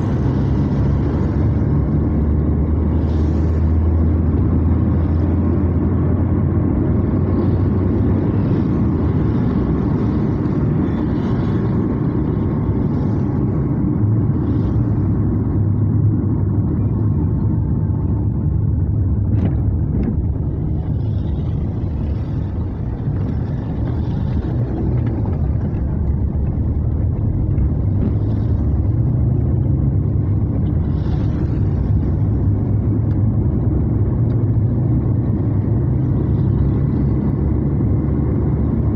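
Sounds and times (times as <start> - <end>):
car engine and tyres rumbling: 0.0 - 38.9
tyres on wet road: 0.0 - 38.9.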